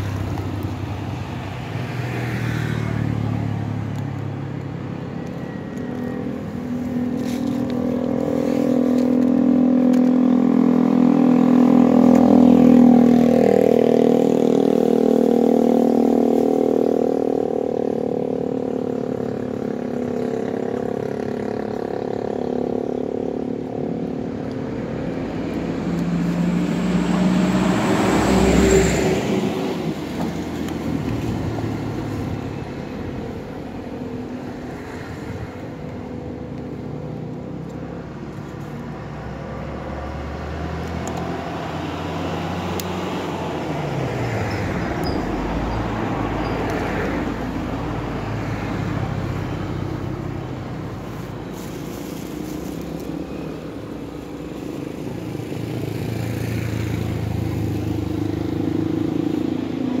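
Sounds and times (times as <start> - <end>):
vehicles passing on road: 0.0 - 60.0.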